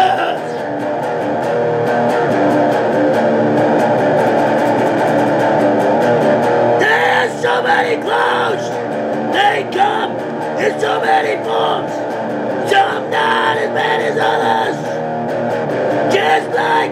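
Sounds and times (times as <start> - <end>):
bending guitar lead line: 0.0 - 16.9
distorted electric guitar: 0.0 - 16.9.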